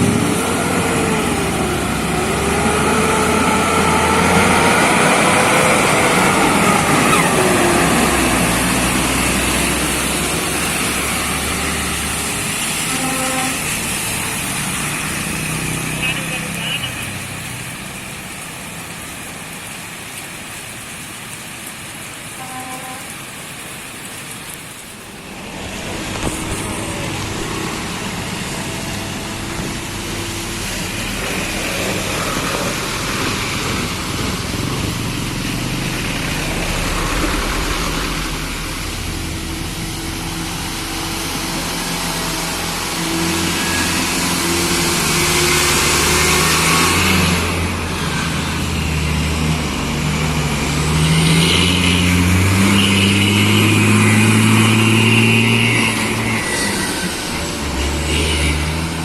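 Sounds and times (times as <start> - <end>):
traffic passing: 0.0 - 59.0.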